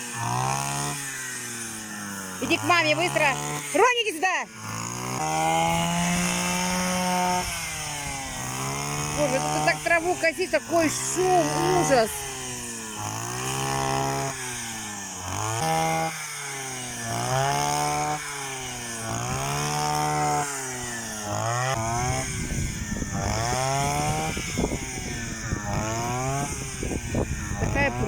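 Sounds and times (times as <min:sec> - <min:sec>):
lawn mower engine: 0:00.0 - 0:28.0.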